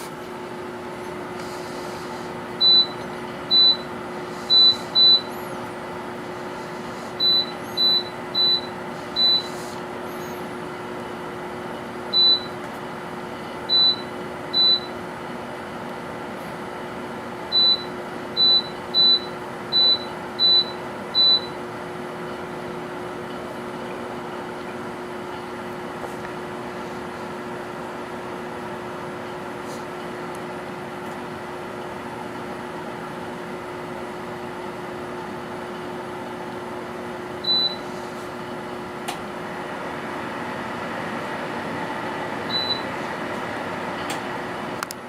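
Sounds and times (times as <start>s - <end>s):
dehumidifier humming: 0.0s - 45.0s.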